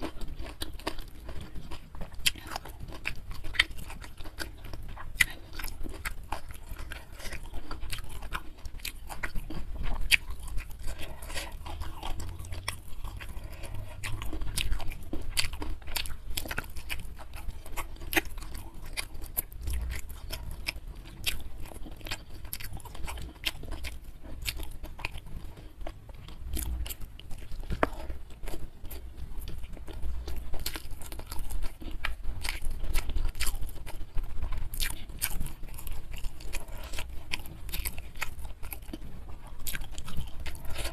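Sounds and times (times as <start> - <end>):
chewing with crunches: 0.0 - 40.9.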